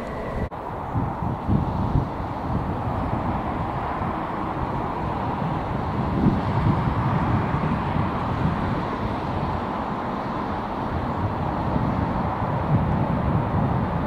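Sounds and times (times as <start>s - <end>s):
jet plane passing overhead: 0.0s - 14.0s
wind buffeting microphone: 0.0s - 14.0s.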